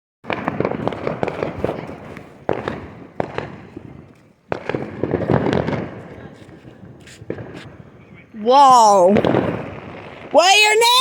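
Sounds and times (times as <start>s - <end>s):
sharp firework bangs: 0.2s - 8.3s, 9.0s - 11.0s
fireworks crackling and popping: 0.2s - 11.0s.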